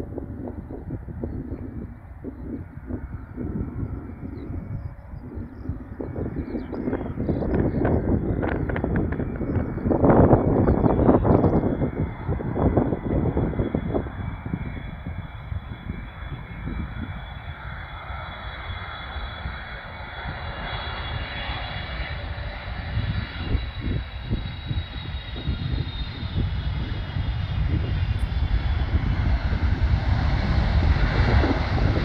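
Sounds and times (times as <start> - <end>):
jet engines whining: 0.0 - 32.0.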